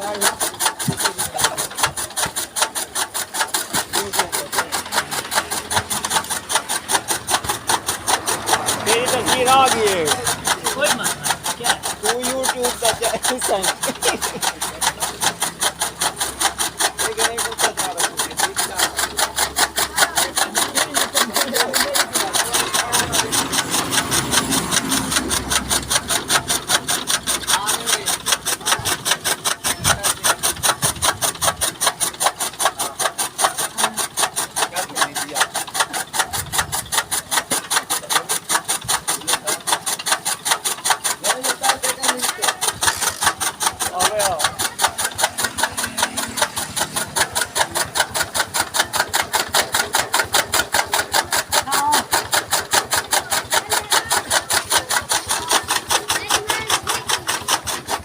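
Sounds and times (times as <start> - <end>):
chaff cutter chopping stalks: 0.0 - 58.0.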